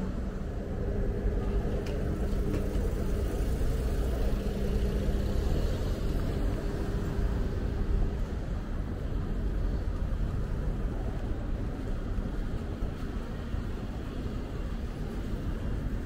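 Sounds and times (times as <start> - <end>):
vehicle engine rumbling: 0.0 - 13.4.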